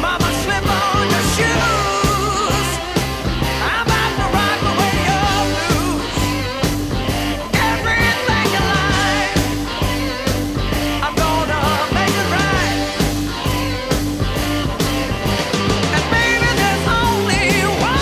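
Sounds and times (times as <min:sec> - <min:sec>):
bending pitched lead lines: 0:00.0 - 0:18.0
hard rock band: 0:00.0 - 0:18.0.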